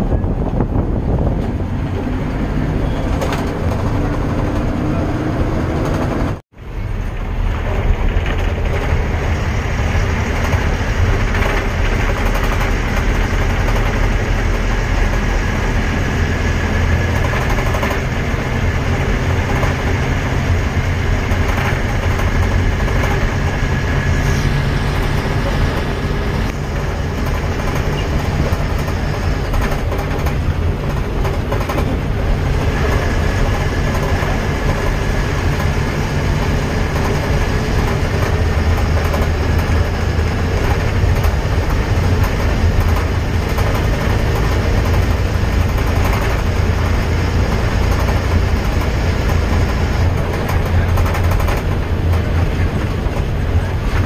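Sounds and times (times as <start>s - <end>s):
road vehicle rumbling: 0.0s - 54.0s.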